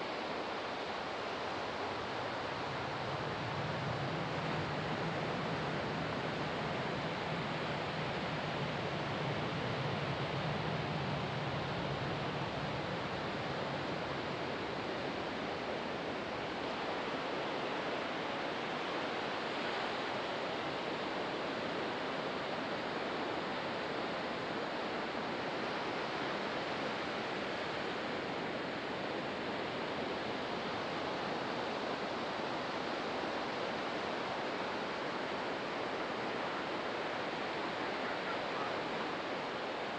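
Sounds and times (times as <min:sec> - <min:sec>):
ocean surf on beach: 0:00.0 - 0:39.9.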